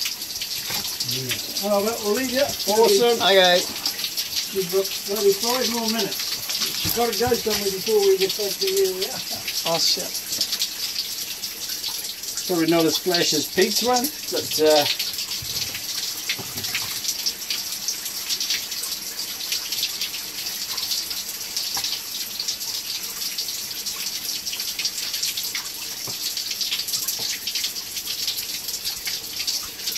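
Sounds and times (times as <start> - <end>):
water running and splashing: 0.0 - 29.9.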